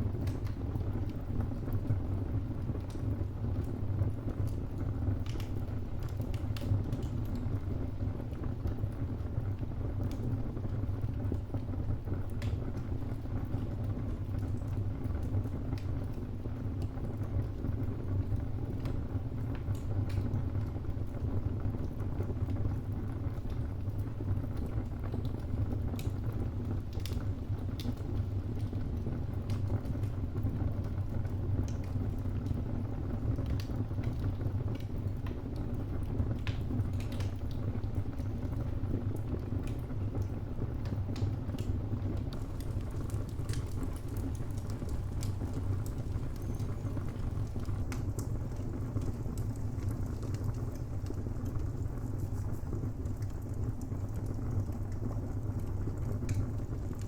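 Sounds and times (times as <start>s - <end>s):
wood fire crackling: 0.0s - 7.6s, 8.2s - 57.0s.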